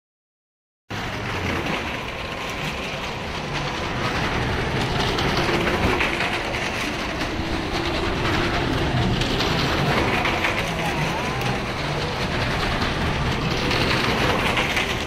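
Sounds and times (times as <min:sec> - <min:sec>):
tyres rattling on wooden planks: 0:01.0 - 0:15.0.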